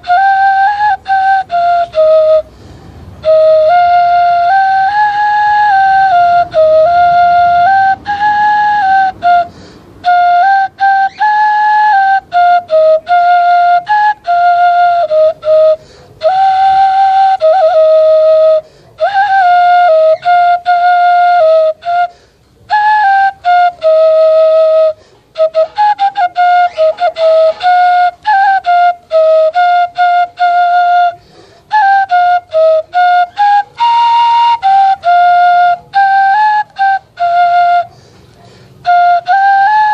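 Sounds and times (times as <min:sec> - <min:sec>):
bamboo flute melody: 0:00.0 - 0:39.9.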